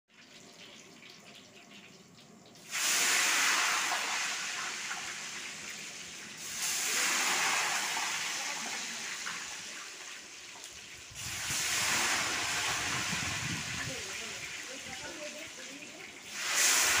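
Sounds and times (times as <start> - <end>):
liquid hissing in a hot pan: 0.2 - 17.0.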